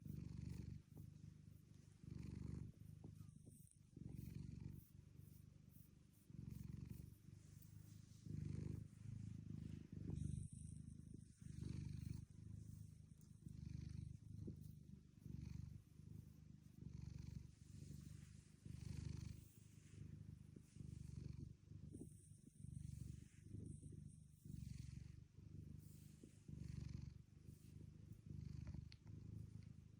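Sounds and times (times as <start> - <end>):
cat snoring: 0.0 - 1.0, 1.8 - 5.4, 6.2 - 29.9.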